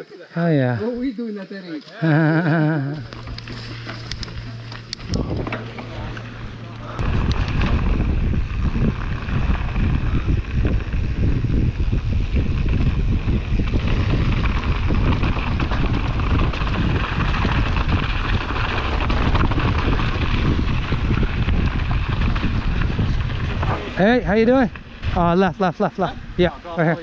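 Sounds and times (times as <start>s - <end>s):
mountain bike rattling on trail: 1.7s - 27.0s
low rumble: 2.7s - 27.0s
wind buffeting microphone: 4.1s - 27.0s.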